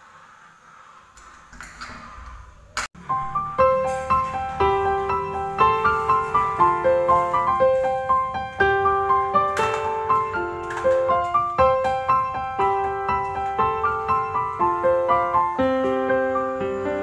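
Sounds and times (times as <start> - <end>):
piano music: 3.0 - 17.0.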